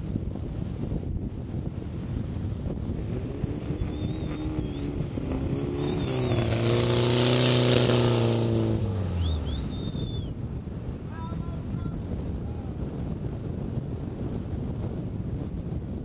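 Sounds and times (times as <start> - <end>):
dune buggy engine driving past: 0.0 - 16.0
wind buffeting microphone: 0.0 - 16.0.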